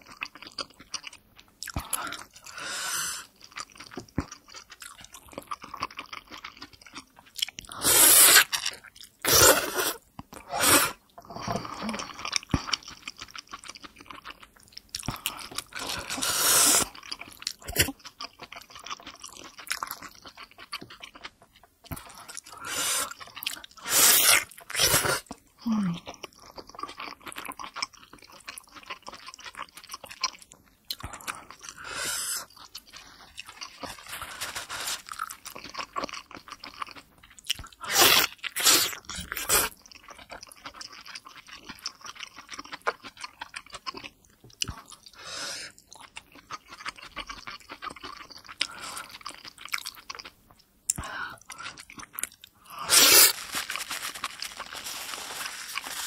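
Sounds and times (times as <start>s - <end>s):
chewing dumpling: 0.0s - 56.0s.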